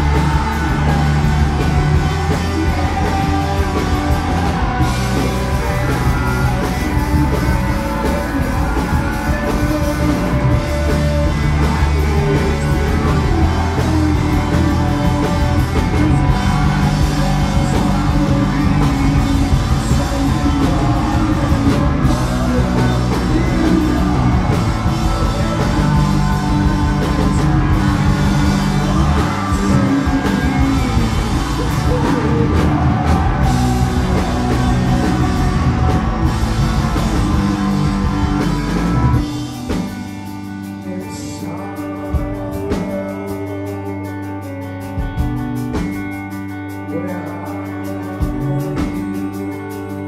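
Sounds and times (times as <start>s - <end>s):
live rock band playing: 0.0s - 50.0s
person singing: 0.0s - 50.0s.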